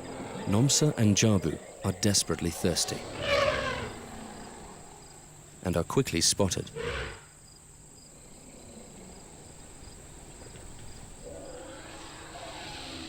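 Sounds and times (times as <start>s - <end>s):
high insect chorus: 0.0s - 13.0s
pulsing insect chirp: 0.0s - 13.0s.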